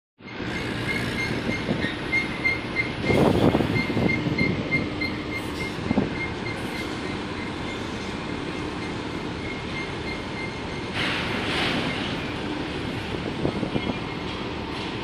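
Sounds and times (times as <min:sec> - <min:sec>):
ship engines rumbling: 0:00.2 - 0:15.0.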